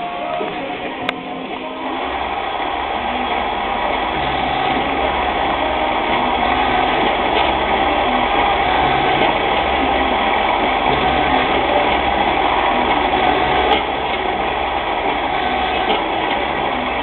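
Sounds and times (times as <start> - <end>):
lathe motor whirring: 0.0 - 17.0.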